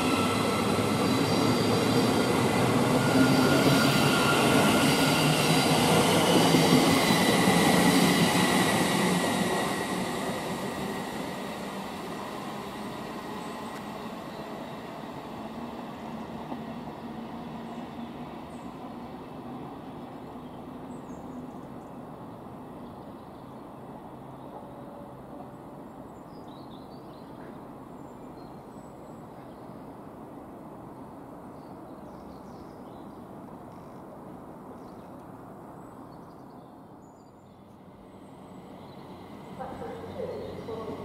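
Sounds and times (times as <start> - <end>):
electric train rumbling past: 0.0 - 31.9, 37.6 - 41.0.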